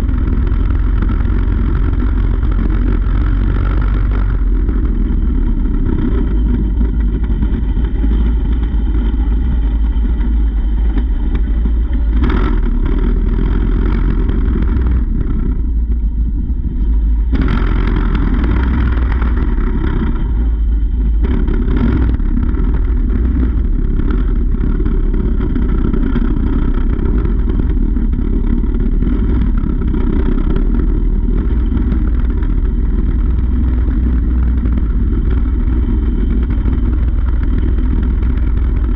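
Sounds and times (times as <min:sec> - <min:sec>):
heavy low rumble: 0:00.0 - 0:38.9
small bike engine running: 0:00.0 - 0:38.9.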